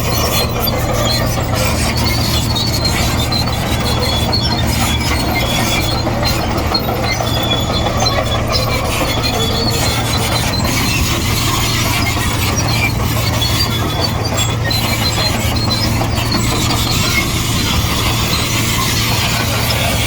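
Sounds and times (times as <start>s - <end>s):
bulldozer diesel engine droning: 0.0s - 20.0s
steel tracks squealing: 0.0s - 20.0s.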